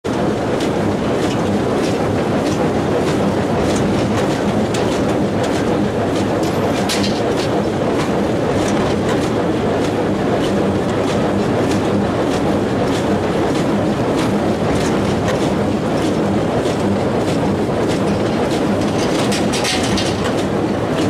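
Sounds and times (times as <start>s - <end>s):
baler mechanical rumble: 0.0s - 21.0s
baler mechanism knocking: 0.6s - 21.0s.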